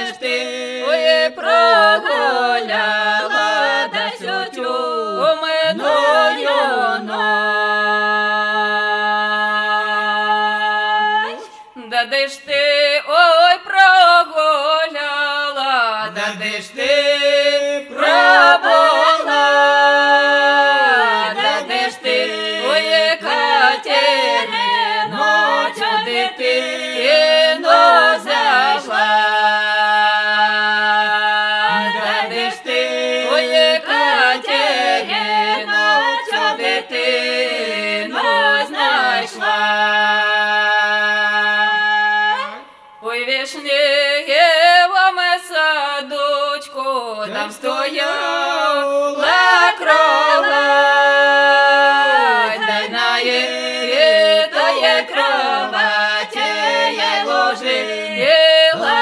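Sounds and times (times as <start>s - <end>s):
unaccompanied folk singing: 0.0s - 59.0s.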